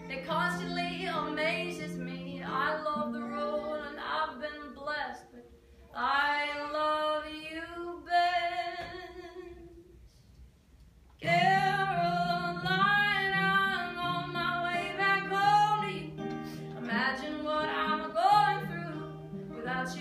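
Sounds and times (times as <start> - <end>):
woman singing: 0.0 - 9.9, 11.2 - 20.0
acoustic guitar: 0.0 - 20.0.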